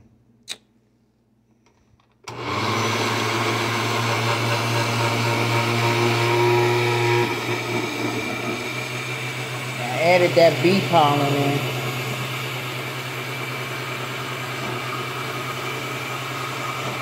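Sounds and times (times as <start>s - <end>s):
blender running: 2.3s - 17.0s.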